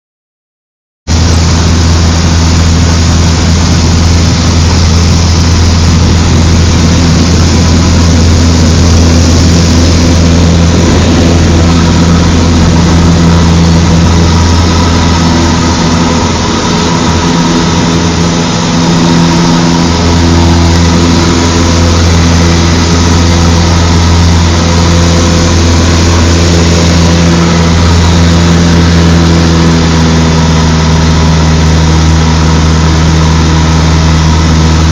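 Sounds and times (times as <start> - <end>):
propeller plane engine running: 1.1 - 34.9.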